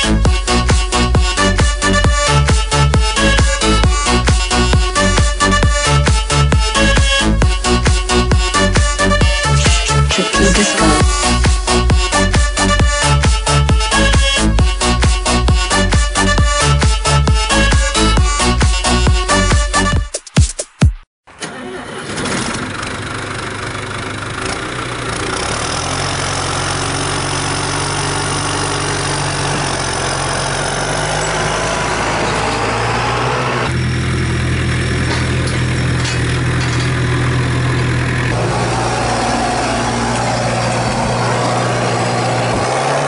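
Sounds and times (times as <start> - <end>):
tractor diesel engine running: 0.0 - 19.9, 21.3 - 43.0.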